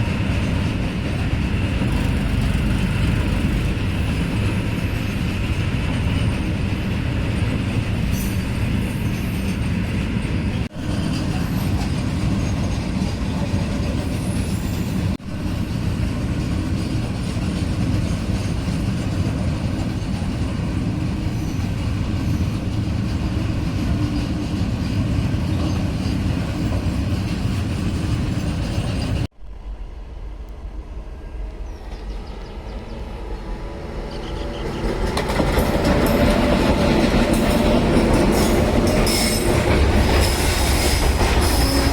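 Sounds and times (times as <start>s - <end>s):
freight train wheels rumbling: 0.0s - 41.9s.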